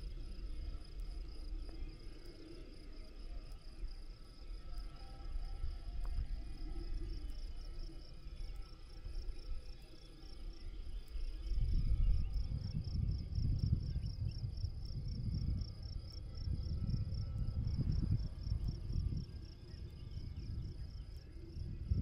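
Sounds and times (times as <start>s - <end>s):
insect chirping: 0.0s - 22.0s
wind rumbling on microphone: 0.0s - 22.0s.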